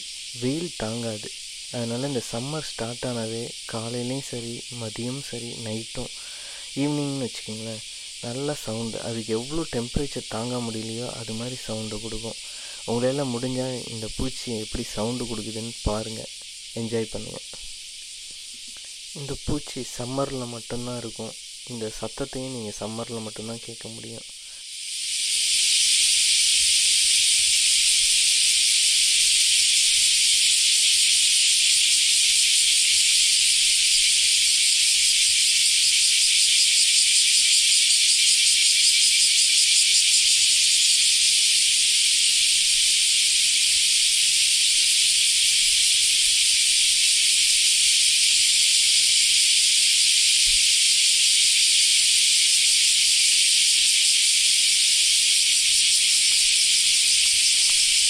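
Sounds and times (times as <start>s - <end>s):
cicada buzzing: 0.0s - 58.0s.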